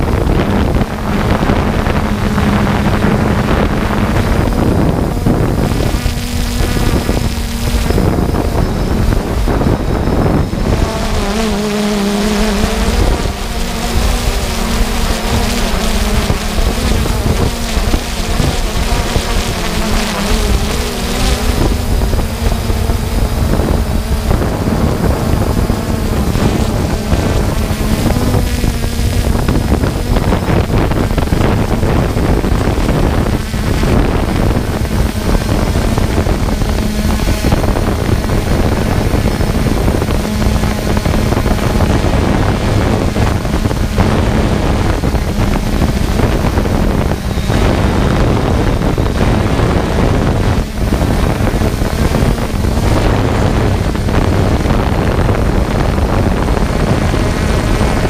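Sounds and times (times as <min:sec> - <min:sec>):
motor droning: 0:00.0 - 0:58.0
wind noise on microphone: 0:00.0 - 0:58.0.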